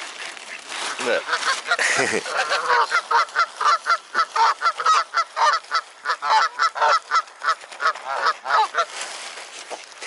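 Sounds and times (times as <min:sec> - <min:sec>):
water birds calling: 0:00.0 - 0:09.0.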